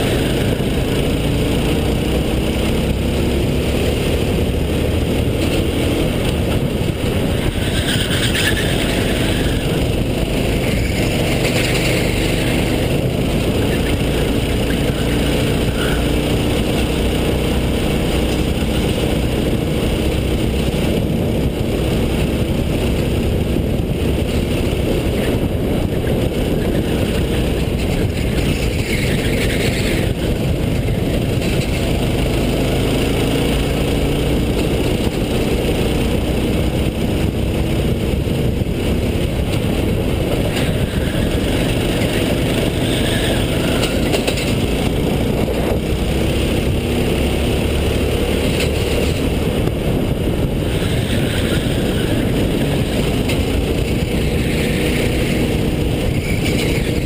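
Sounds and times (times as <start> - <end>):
kart engine: 0.0 - 57.0
loud rush of noise: 0.0 - 57.0.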